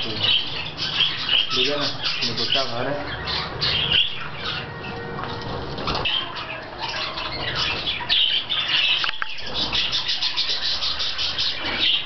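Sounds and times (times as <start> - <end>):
budgerigars chattering and squawking: 0.0 - 12.0.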